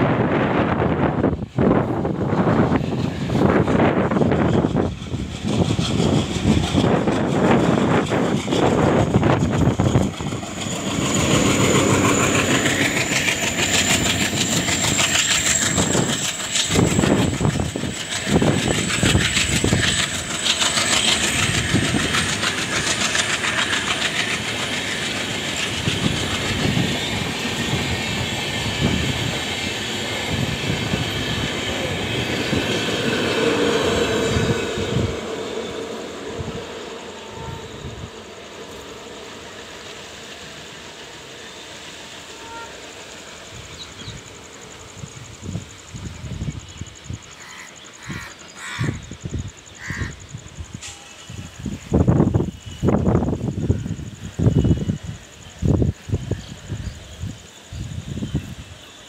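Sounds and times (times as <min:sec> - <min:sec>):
train passing at speed: 0:00.0 - 0:59.0.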